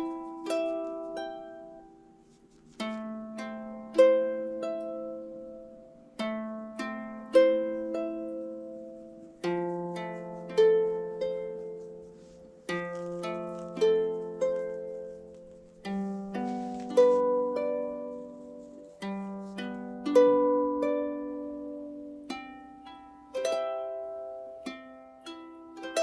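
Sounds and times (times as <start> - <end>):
calm plucked-string music: 0.0 - 26.0.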